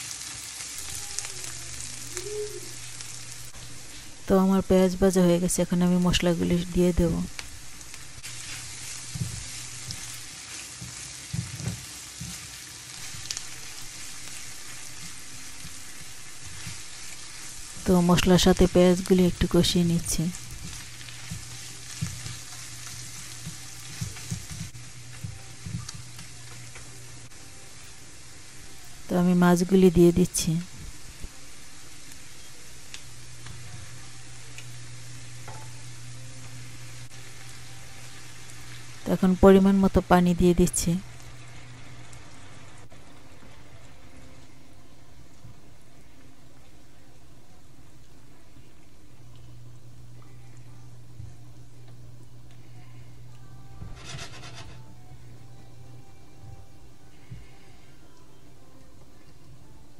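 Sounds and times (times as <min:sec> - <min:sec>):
onions sizzling in hot oil: 0:00.0 - 0:46.8, 0:50.8 - 0:54.9
low steady hum: 0:11.3 - 0:59.9.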